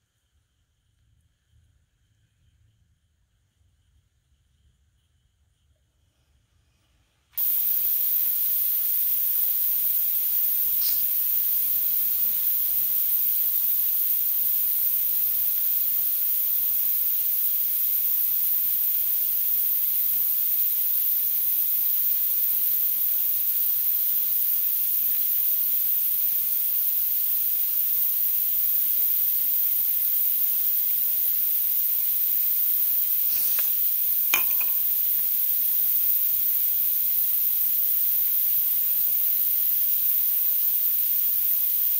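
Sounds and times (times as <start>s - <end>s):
high-pitched hiss: 0.0s - 41.9s.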